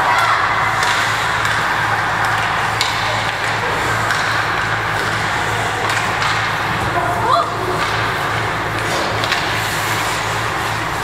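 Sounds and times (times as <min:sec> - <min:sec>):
hockey sticks and puck clicking: 0:00.0 - 0:07.0, 0:07.6 - 0:11.0.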